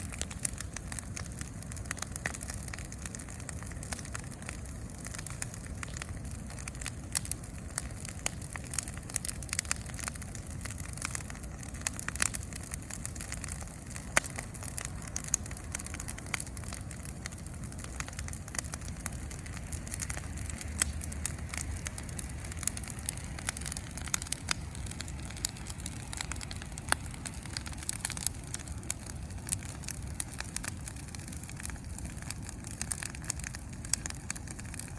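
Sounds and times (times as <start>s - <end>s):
bonfire crackling and popping: 0.0s - 34.9s
low steady fire rumble: 0.0s - 34.9s.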